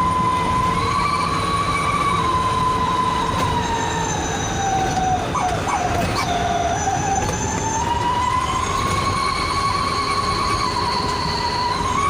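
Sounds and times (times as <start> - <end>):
engine and road rumble: 0.0 - 12.0
howling whistle exhaust: 0.0 - 12.0.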